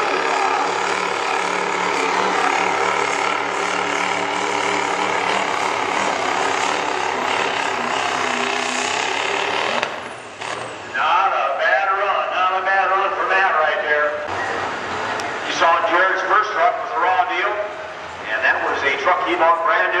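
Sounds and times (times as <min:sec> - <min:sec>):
diesel truck engine running hard: 0:00.0 - 0:19.9.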